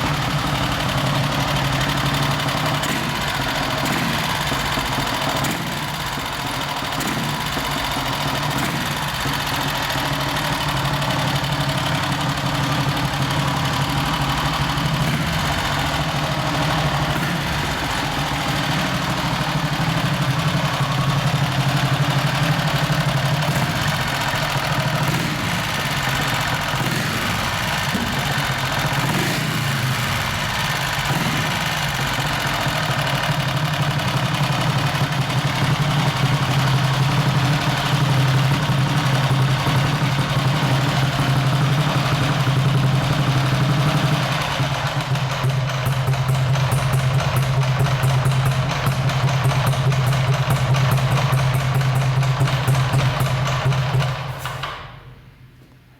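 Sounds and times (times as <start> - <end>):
motorcycle engine idling: 0.0 - 55.8.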